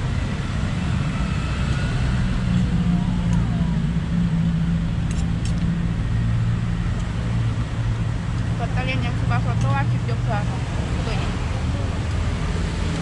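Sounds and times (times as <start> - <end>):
street traffic: 0.0 - 13.0
vehicle engine running: 0.0 - 13.0.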